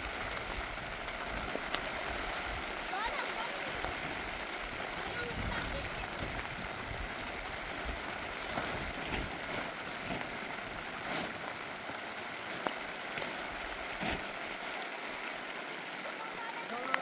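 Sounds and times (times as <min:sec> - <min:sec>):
heavy rain: 0:00.0 - 0:17.0
sharp raindrop hits: 0:00.0 - 0:17.0.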